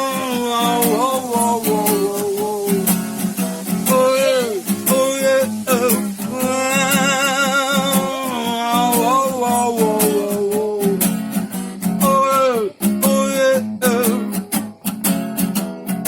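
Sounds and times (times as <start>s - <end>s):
person singing wordless notes: 0.0s - 3.1s, 3.8s - 11.2s, 11.9s - 14.4s
acoustic guitar strumming: 0.0s - 16.0s.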